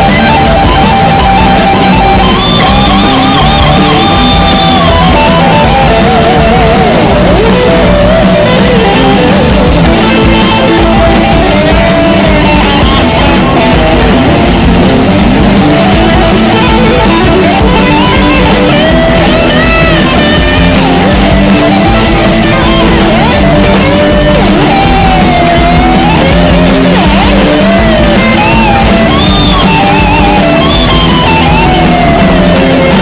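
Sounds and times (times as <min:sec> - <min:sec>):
electric guitar lead: 0:00.0 - 0:33.0
steady drum beat: 0:00.0 - 0:33.0.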